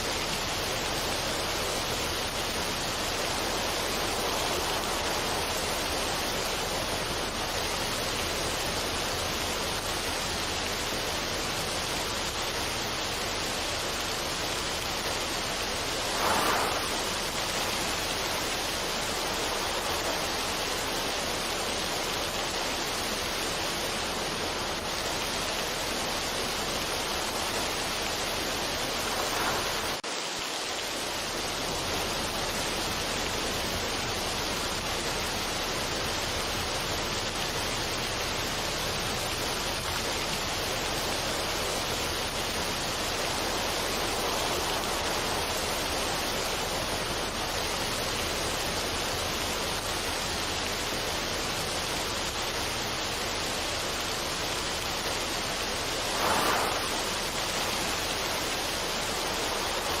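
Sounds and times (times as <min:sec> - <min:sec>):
rushing water: 0:00.0 - 1:00.0.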